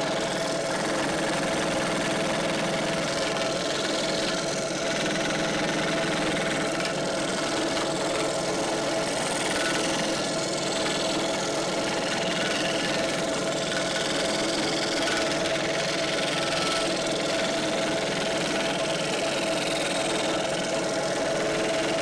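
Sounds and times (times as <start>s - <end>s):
electric scroll saw cutting wood: 0.0s - 22.0s.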